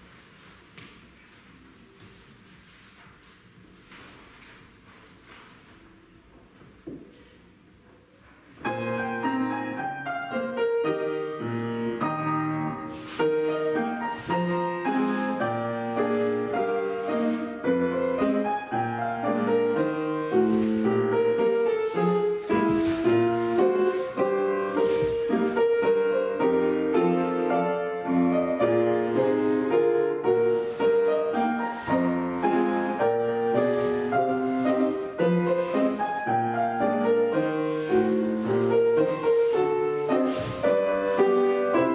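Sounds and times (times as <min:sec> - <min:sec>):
classical piano accompaniment: 0:00.0 - 0:41.9.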